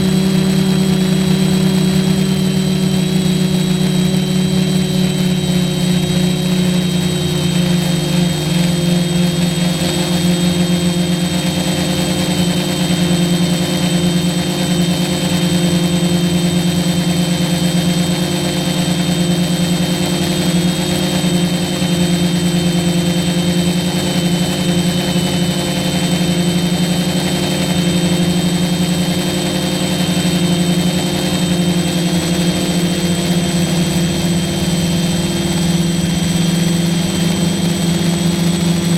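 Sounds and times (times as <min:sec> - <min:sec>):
quadcopter motors humming: 0:00.0 - 0:38.9.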